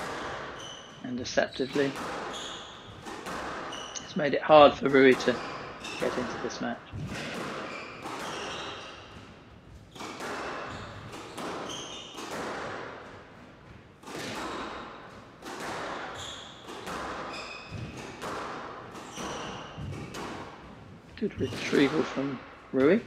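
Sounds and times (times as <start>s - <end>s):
shoes squeaking on wooden floor: 0.0s - 23.0s
squash ball hitting rackets and walls: 0.0s - 23.0s.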